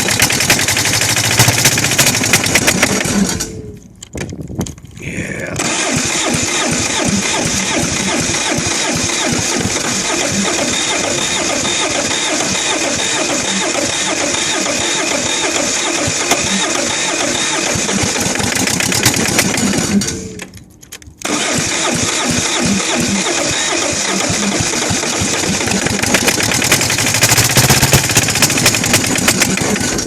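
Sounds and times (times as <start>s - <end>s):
diesel engine running roughly: 0.0s - 3.7s, 5.6s - 20.5s, 21.2s - 30.0s.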